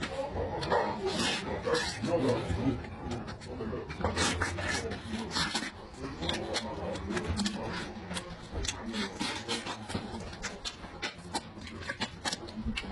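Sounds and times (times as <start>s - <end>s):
man chewing with wet smacks: 0.0s - 12.9s.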